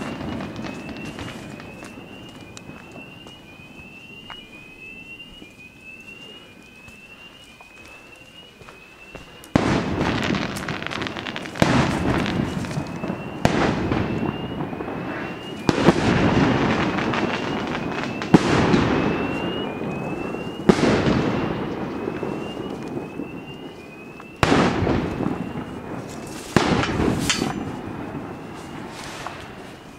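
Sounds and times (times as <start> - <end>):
fire alarm whooping: 0.0 - 29.9
fireworks bangs: 0.0 - 29.9
fireworks crackling hiss: 0.0 - 29.9.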